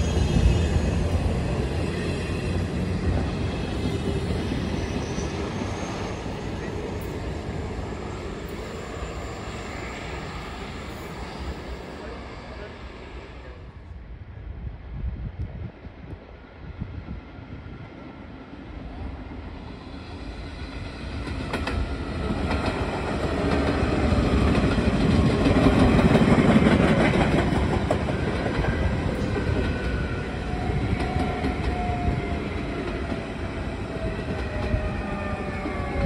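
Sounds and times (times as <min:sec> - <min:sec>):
train rumble: 0:00.0 - 0:36.0.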